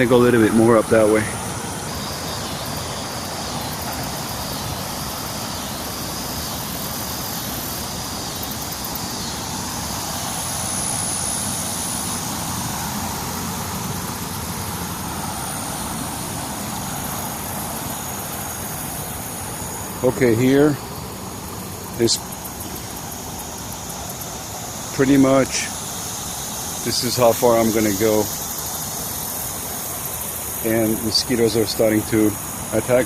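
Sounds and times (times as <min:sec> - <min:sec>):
distant road traffic drone: 0:00.0 - 0:33.0
thin high steady tones: 0:00.0 - 0:33.0.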